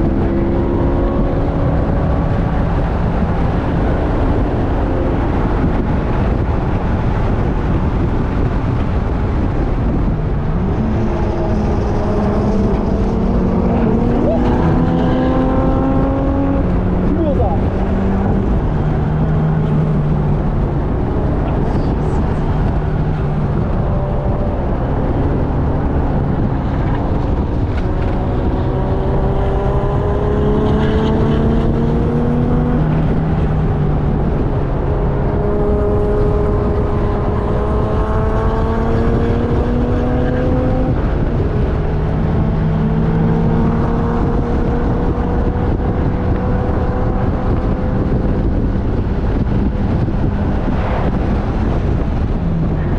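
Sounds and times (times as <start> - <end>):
race car engine revving: 0.0 - 52.9
wind and road noise: 0.0 - 52.9.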